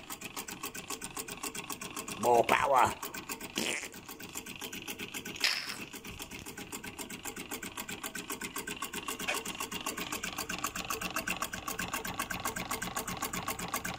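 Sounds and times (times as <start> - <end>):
stirling engine clicking: 0.0 - 13.9.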